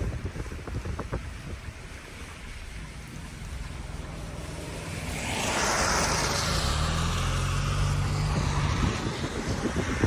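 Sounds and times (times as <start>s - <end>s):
low engine hum: 0.0s - 10.0s
tyres hissing on wet road: 0.0s - 10.0s.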